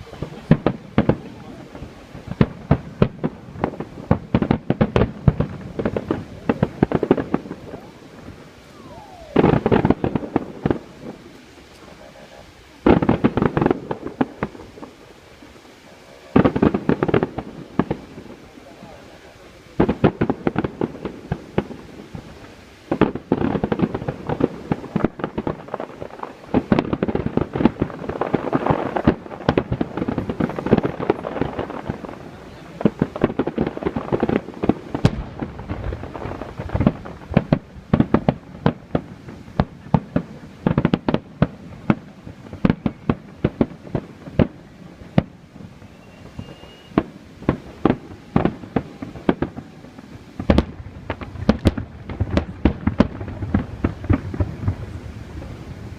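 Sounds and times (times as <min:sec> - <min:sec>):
fireworks bursting with bangs and crackle: 0:00.0 - 0:55.9.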